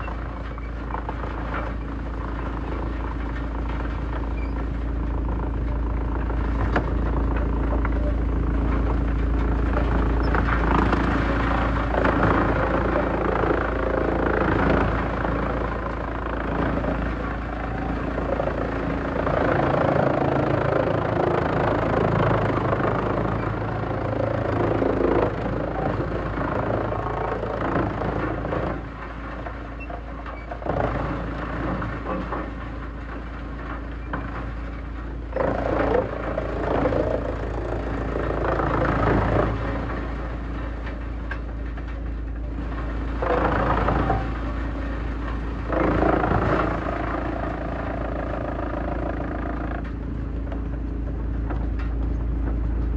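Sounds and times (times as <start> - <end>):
wood shredder drone: 0.0 - 52.9
wood crunching and cracking: 0.1 - 52.9.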